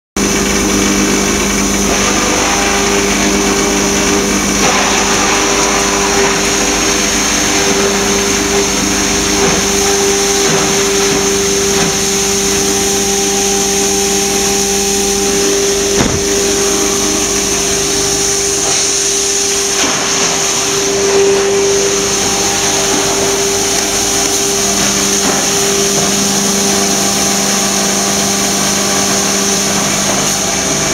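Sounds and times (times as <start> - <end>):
foam shredder motor hum: 0.2 - 30.9.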